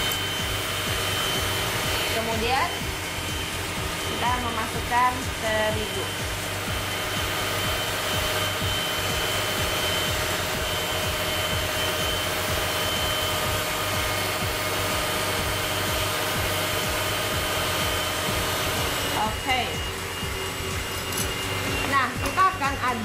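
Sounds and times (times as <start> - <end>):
electric stand mixer running: 0.0 - 23.0.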